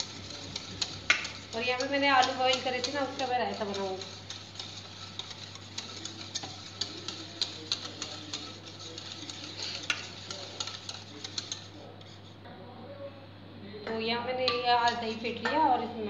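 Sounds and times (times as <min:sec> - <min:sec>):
whisk clicking in metal bowl: 0:00.0 - 0:12.2, 0:14.4 - 0:15.6.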